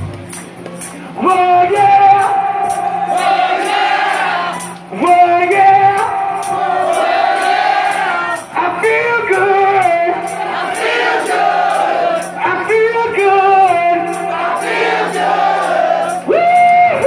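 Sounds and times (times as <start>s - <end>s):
lead holding long notes: 1.1s - 17.0s.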